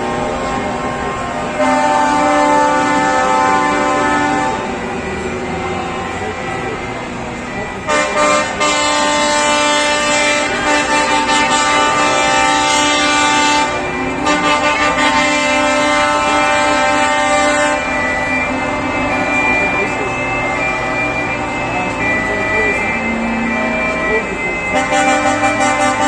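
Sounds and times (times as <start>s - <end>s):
truck horn blasts: 0.0s - 26.0s.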